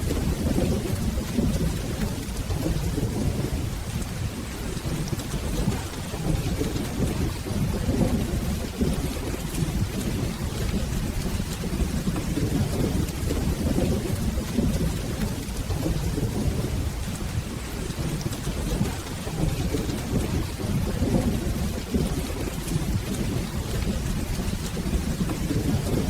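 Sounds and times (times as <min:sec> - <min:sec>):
rolling thunder: 0:00.0 - 0:26.0
steady rain falling: 0:00.0 - 0:26.0.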